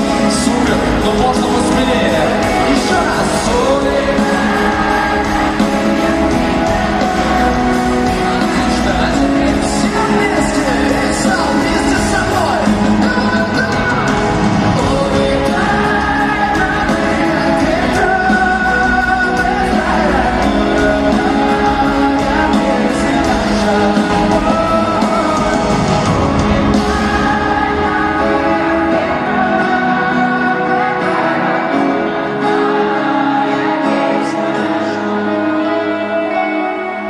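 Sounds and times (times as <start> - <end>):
crowd singing along and shouting: 0.0 - 37.0
live band with singer: 0.0 - 37.0.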